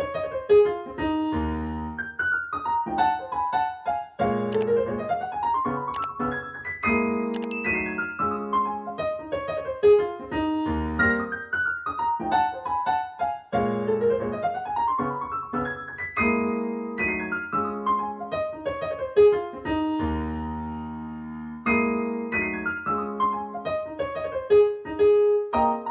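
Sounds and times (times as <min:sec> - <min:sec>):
solo piano music through speakers: 0:00.0 - 0:25.9.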